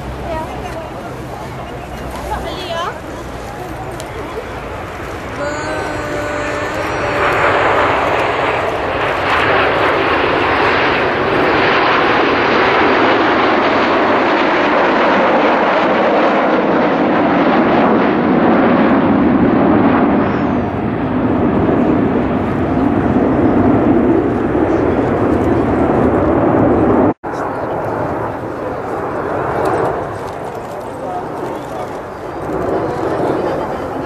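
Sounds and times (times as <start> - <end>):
jets flying over: 0.0 - 34.0.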